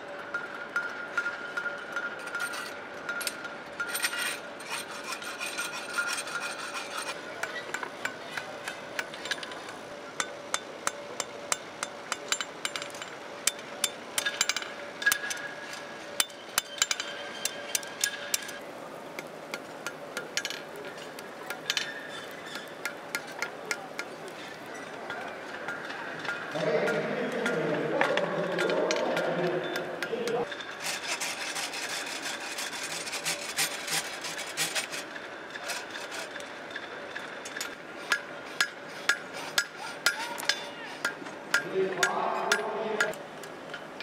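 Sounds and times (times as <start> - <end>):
hammers striking steel on anvils: 0.3 - 15.5, 16.1 - 18.6, 19.2 - 30.6, 37.1 - 43.9.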